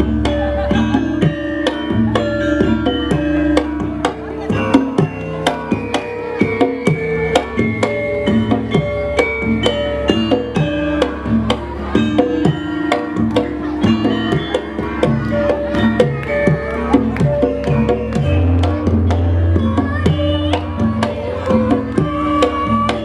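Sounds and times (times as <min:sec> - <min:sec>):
metallophones ringing melody: 0:00.0 - 0:23.0.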